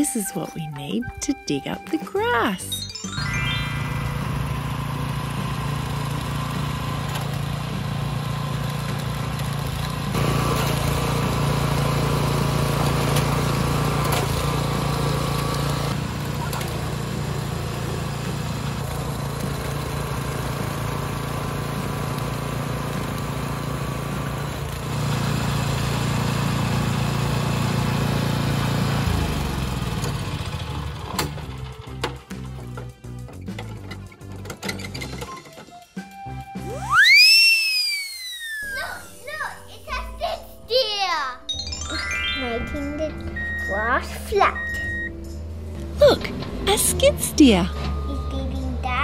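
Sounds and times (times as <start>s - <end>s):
trench digger engine running: 0.0s - 35.8s, 43.0s - 49.0s.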